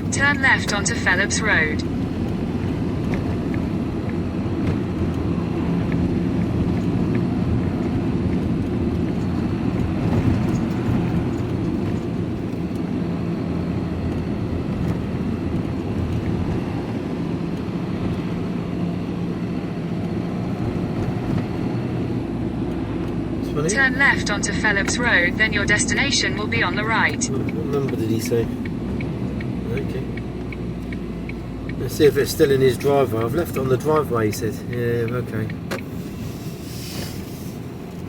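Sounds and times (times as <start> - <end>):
van engine and road noise: 0.0 - 38.0.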